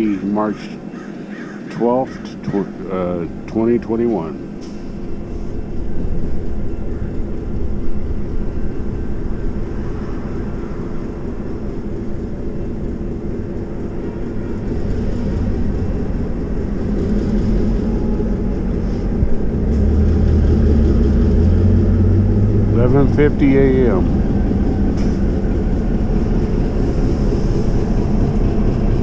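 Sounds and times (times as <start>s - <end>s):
diesel train rumbling past: 0.0s - 29.0s
locomotive engine hum: 0.0s - 29.0s.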